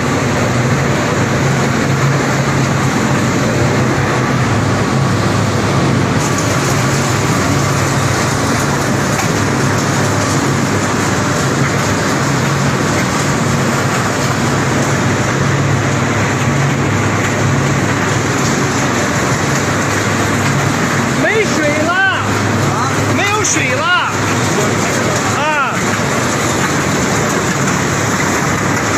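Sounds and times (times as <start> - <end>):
constant low hum: 0.0 - 28.9
recycling machinery din: 0.0 - 28.9.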